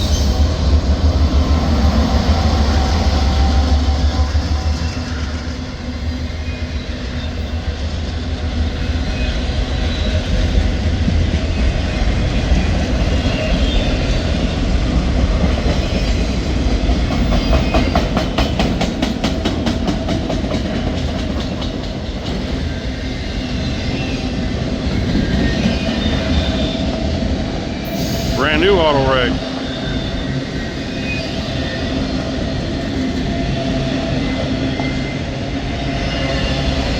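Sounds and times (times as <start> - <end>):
freight train rumbling past: 0.0 - 36.9.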